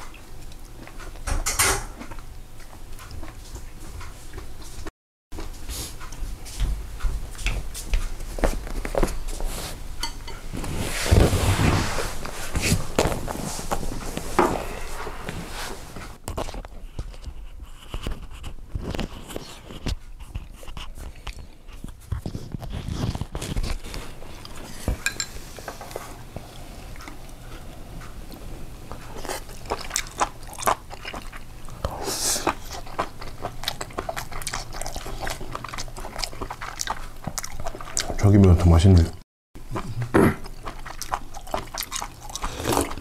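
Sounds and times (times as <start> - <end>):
chewing and biting food: 0.0 - 1.3, 2.0 - 9.5, 16.2 - 25.0, 25.9 - 43.0.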